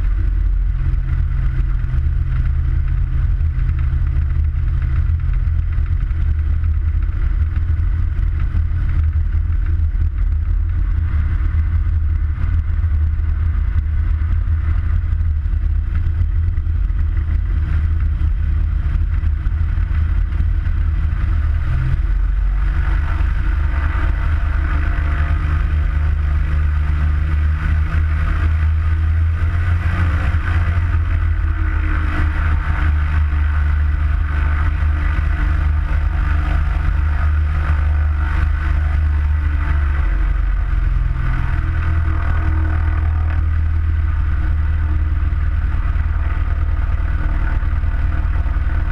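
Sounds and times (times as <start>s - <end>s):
light aircraft engine and propeller: 0.0s - 48.9s.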